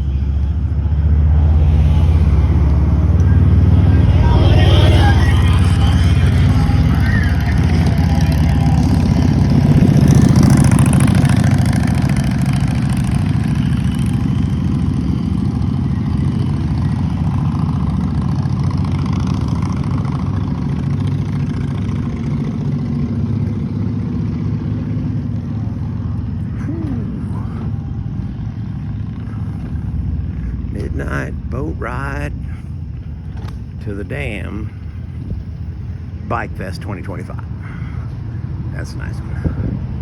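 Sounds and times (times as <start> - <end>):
road noise: 0.0 - 40.0
vehicle engine running: 0.0 - 40.0.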